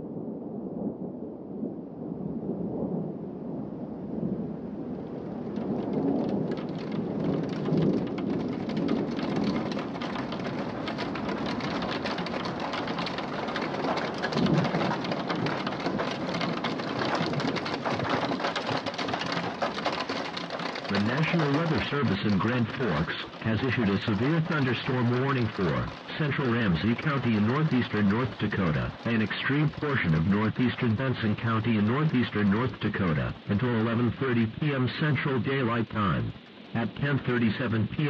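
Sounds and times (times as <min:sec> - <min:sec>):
thunder rumbling: 0:00.0 - 0:38.0
heavy rain: 0:02.5 - 0:38.0
hail pelting: 0:05.1 - 0:38.0.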